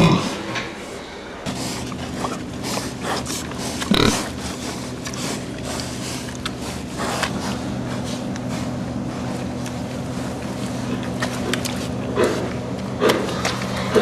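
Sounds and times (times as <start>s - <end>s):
pigs grunting: 0.0s - 0.7s, 1.4s - 14.0s
steady low hum: 0.0s - 14.0s.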